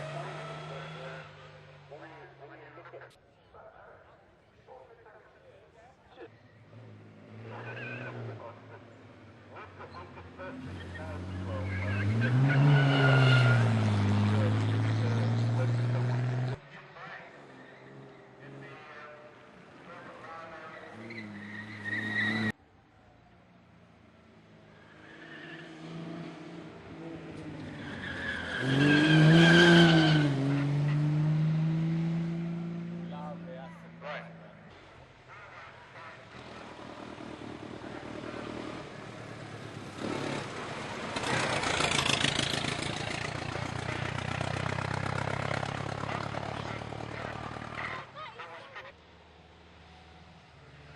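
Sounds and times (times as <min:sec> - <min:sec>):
car engine approaching: 0:00.0 - 0:03.1, 0:06.2 - 0:35.2, 0:36.4 - 0:48.6.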